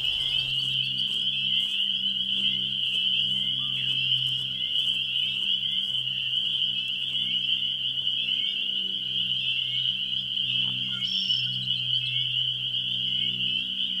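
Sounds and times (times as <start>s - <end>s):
frogs trilling: 0.0s - 14.0s
low steady hum: 0.0s - 14.0s.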